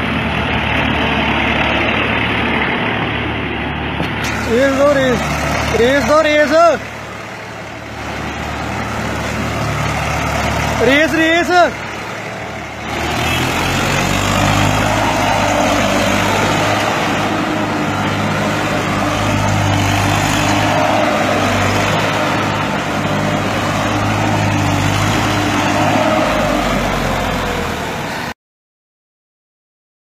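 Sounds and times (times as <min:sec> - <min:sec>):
tractor engine running under load: 0:00.0 - 0:28.3.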